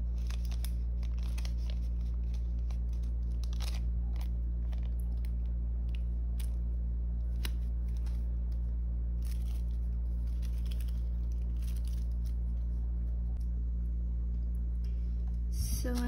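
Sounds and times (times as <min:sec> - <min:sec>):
plastic sleeves crinkling: 0:00.0 - 0:13.4
steady low hum: 0:00.0 - 0:16.0.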